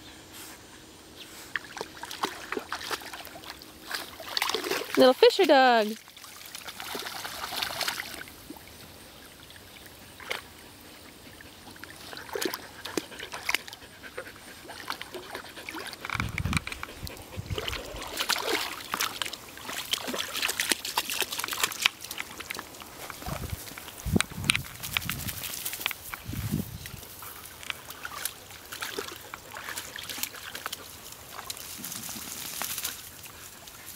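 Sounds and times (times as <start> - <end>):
dogs paddling through water: 1.2 - 33.9.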